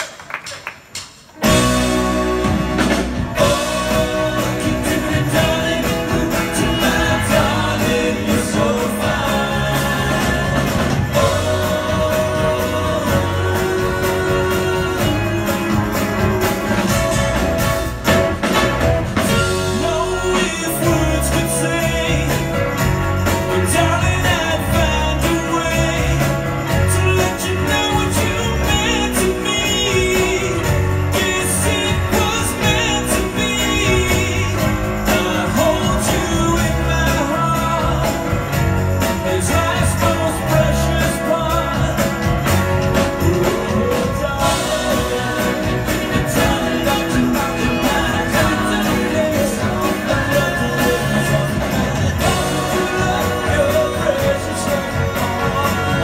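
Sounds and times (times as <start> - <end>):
live pop-rock band: 0.0 - 56.0
man singing lead vocal: 1.4 - 18.0, 19.1 - 56.0.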